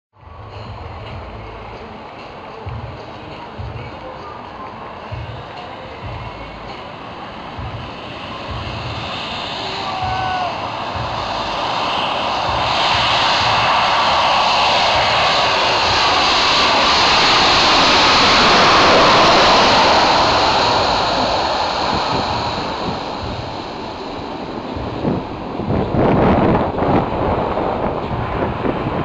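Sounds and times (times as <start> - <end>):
jet engines overhead: 0.2 - 29.0.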